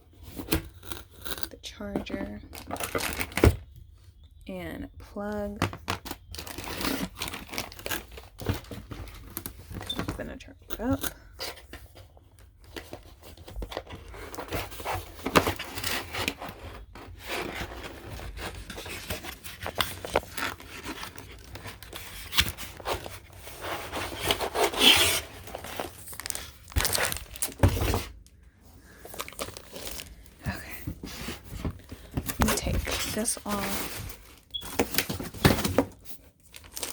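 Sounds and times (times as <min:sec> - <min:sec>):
packaging crinkling and rubbing: 0:00.1 - 0:03.7, 0:05.9 - 0:09.9, 0:11.4 - 0:36.9.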